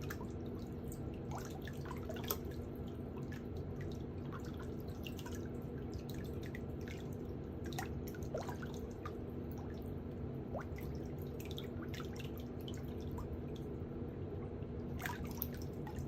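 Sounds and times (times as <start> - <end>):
steady low hum: 0.0 - 16.0
water dripping: 0.0 - 16.0.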